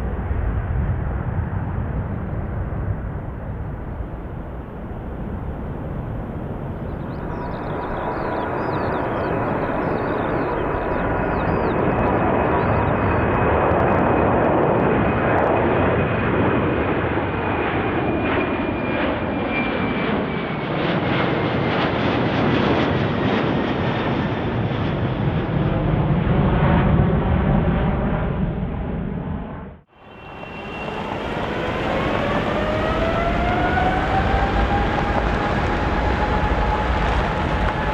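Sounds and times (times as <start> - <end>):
jet engines roaring and whining: 0.0 - 37.9.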